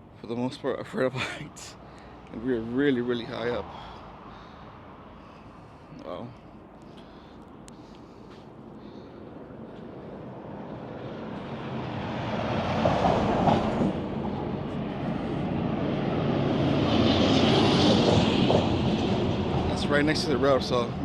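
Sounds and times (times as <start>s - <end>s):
vehicle passing: 1.6s - 21.0s.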